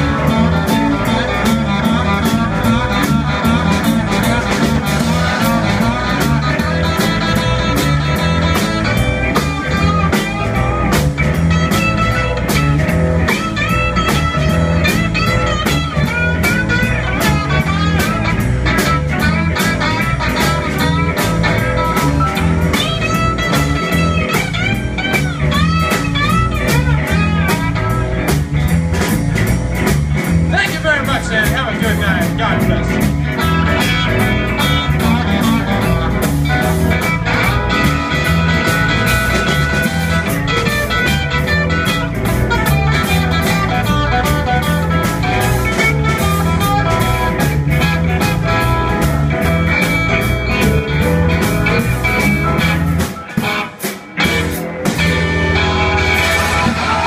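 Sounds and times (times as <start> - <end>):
electric bass: 0.0 - 57.0
electric guitar lead: 0.0 - 57.0
steady drum beat: 0.0 - 57.0.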